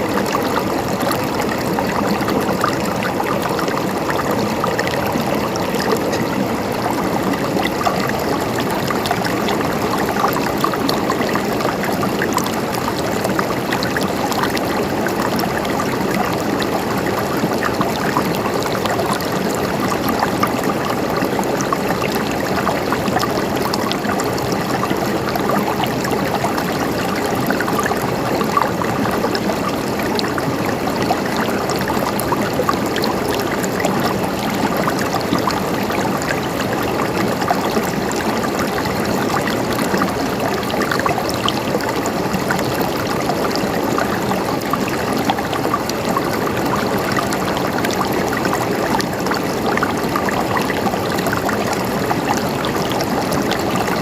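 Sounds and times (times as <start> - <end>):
river water running over rocks: 0.0 - 54.0.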